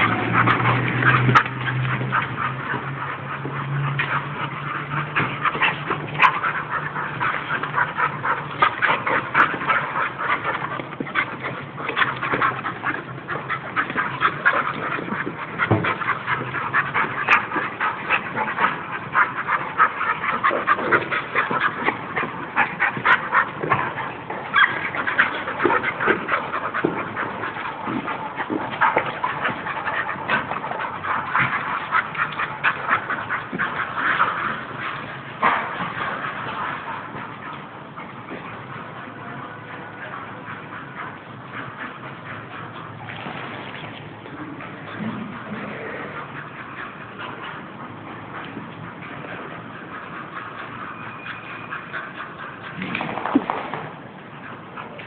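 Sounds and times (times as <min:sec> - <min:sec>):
dogs play-fighting noises: 0:00.0 - 0:55.0.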